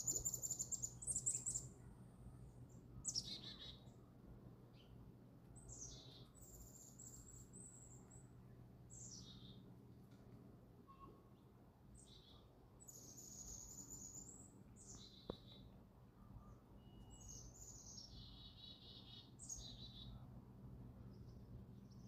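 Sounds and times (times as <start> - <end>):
songbirds singing: 0.0 - 10.1, 10.9 - 22.0.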